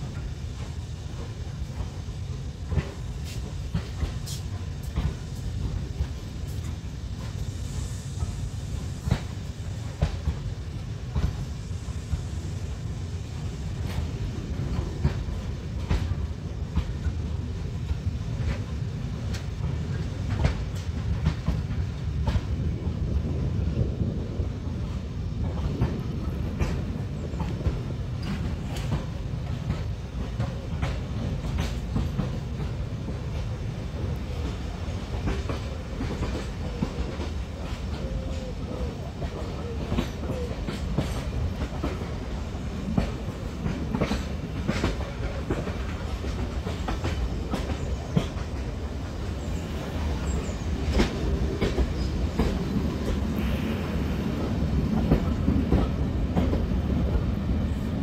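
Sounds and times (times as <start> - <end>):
wheels clicking over rail joints: 0.0 - 7.5, 13.8 - 24.8, 25.4 - 53.6
train carriages rumbling: 0.0 - 58.0.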